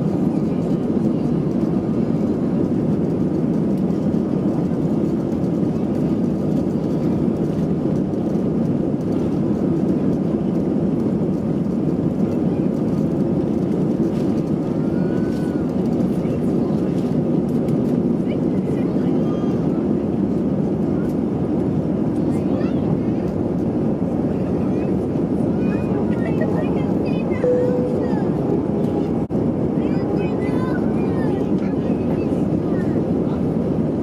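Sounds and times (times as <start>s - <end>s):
airplane cabin engine rush: 0.0s - 34.0s.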